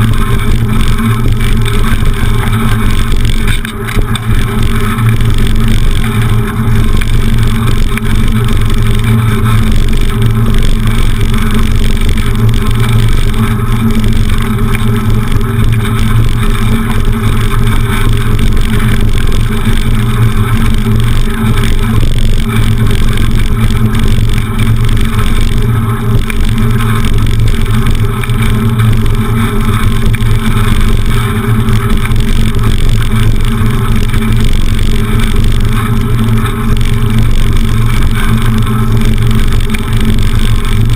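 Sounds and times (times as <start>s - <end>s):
constant drone: 0.0s - 40.9s.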